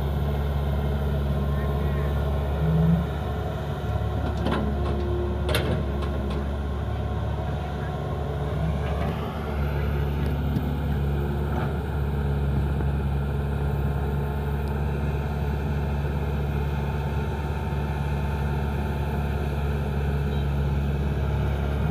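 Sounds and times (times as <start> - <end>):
diesel engine droning: 0.0 - 21.9.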